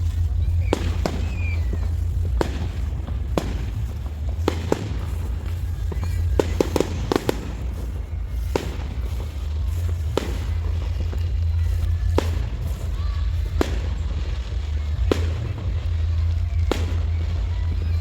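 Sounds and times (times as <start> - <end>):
fireworks bangs and cracks: 0.0 - 18.0
steady low rumble: 0.0 - 18.0.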